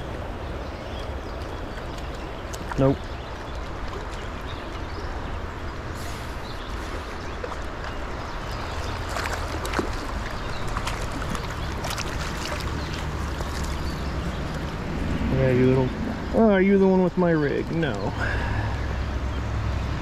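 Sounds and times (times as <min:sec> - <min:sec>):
stream rushing over rocks: 0:00.0 - 0:19.3.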